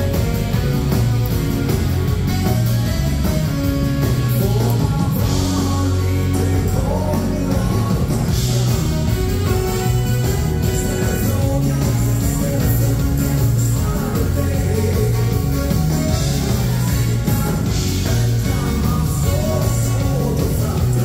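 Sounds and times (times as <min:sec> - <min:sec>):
saxophone: 0:00.0 - 0:05.6, 0:08.4 - 0:14.0, 0:15.2 - 0:21.0
accordion: 0:00.0 - 0:21.0
drums: 0:00.0 - 0:21.0
electric guitar: 0:00.0 - 0:21.0.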